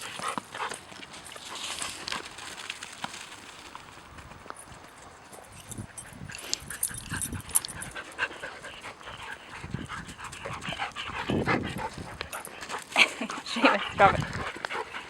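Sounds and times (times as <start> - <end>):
dogs panting: 0.0 - 2.6, 4.9 - 15.0.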